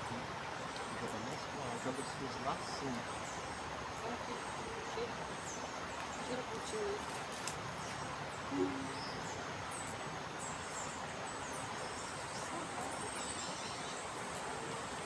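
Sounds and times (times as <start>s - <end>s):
outdoor hiss: 0.0s - 15.0s
small birds chirping: 0.0s - 15.0s.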